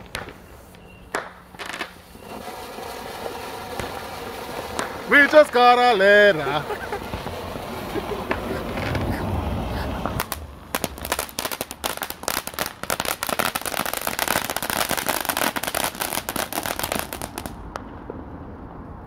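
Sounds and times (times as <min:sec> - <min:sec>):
firework crackling pops: 0:00.0 - 0:09.1, 0:10.0 - 0:18.3.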